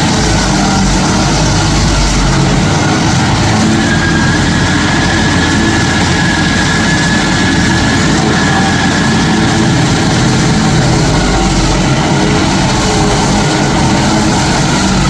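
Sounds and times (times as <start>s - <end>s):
faint high whine: 0.0s - 15.0s
stump grinder running: 0.0s - 15.0s.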